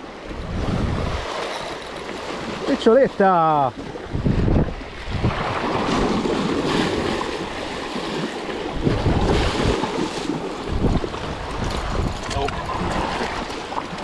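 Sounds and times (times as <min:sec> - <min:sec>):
wind buffeting microphone: 0:00.0 - 0:01.4, 0:02.4 - 0:14.0
sea waves washing against rocks: 0:00.0 - 0:14.0.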